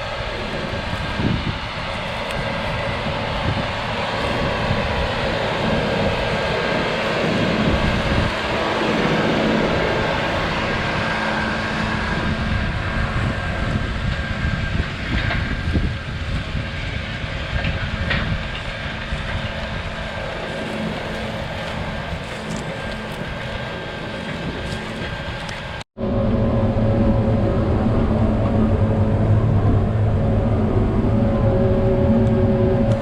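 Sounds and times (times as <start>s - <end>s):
rattle of working machinery: 0.0s - 33.0s
tractor diesel engine under load: 0.0s - 33.0s.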